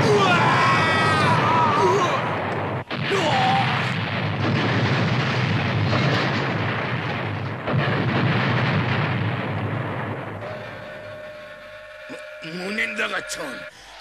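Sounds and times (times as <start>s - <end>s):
cartoon explosion blast: 0.0s - 12.4s.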